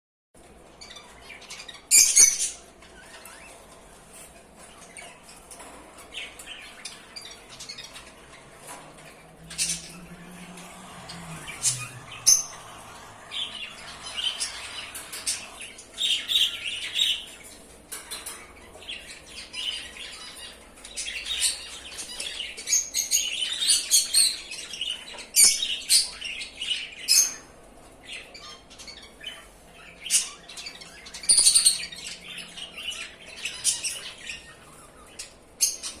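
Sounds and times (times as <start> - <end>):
cockatiels chirping and squawking: 0.8 - 36.0.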